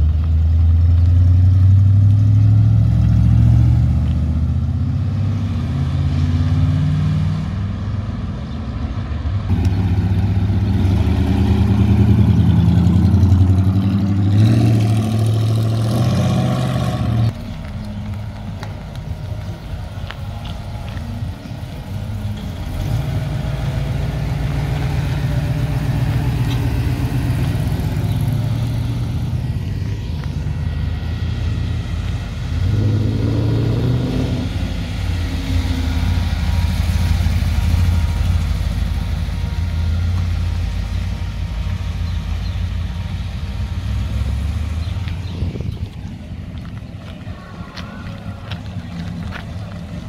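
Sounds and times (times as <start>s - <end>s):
cars driving slowly past: 0.0s - 50.0s
louder car engine: 0.0s - 50.0s.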